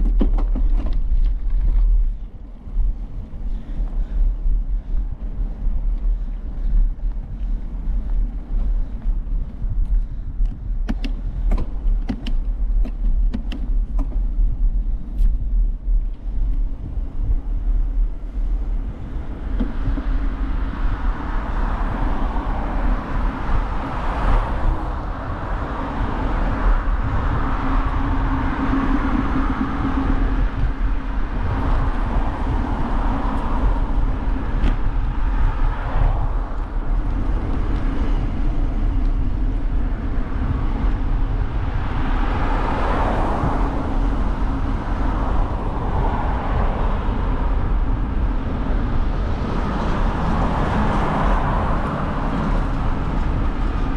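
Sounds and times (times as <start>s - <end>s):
road traffic: 0.0s - 53.9s
wind and tyres rumbling: 0.0s - 53.9s.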